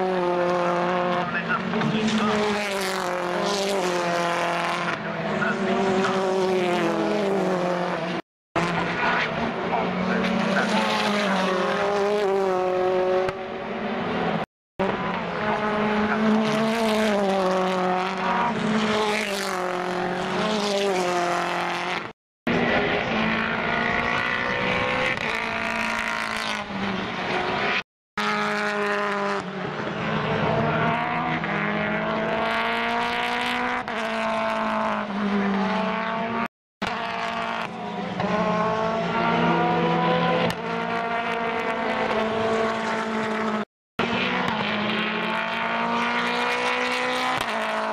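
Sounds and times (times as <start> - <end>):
race car engines: 0.0 - 47.9.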